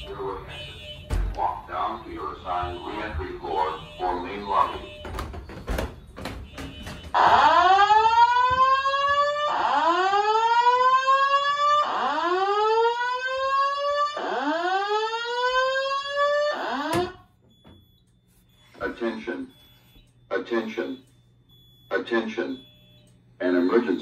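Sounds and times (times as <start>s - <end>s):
fire alarm whoop tone: 0.0s - 24.0s.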